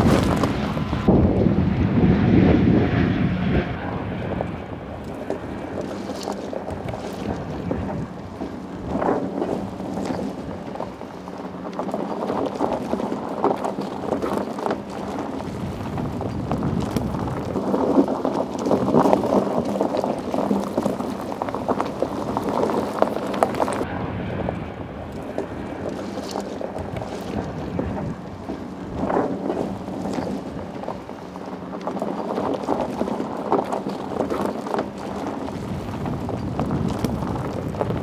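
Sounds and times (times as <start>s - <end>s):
low engine hum: 0.0s - 38.0s
tyres crunching on gravel: 5.0s - 23.8s, 25.2s - 38.0s.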